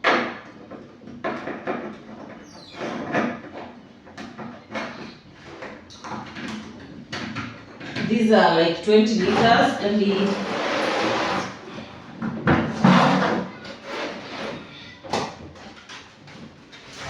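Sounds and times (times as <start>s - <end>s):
plastic jerrycans knocking and scraping: 0.0s - 8.3s, 9.1s - 17.0s.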